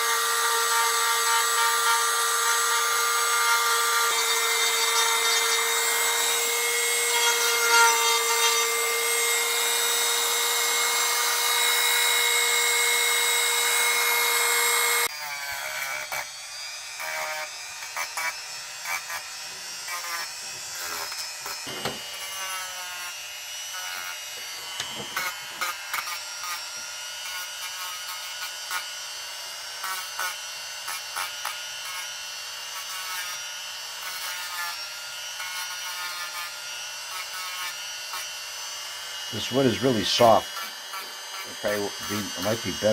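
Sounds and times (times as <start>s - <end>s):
rotary tool whine: 0.0s - 42.9s.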